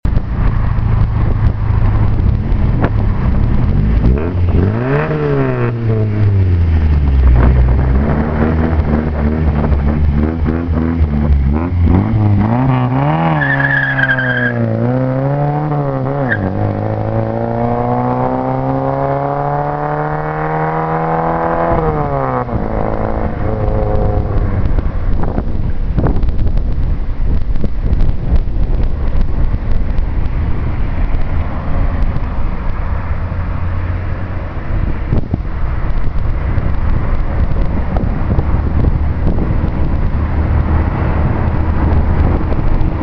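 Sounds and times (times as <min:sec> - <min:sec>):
car engine revving: 0:00.2 - 0:26.6, 0:27.9 - 0:43.0.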